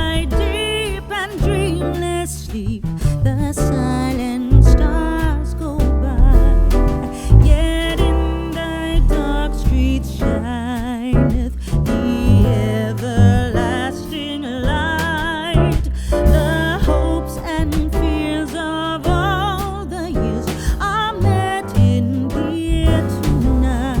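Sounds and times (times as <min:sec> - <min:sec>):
guitar bass and beat: 0:00.0 - 0:24.0
person singing: 0:03.4 - 0:24.0.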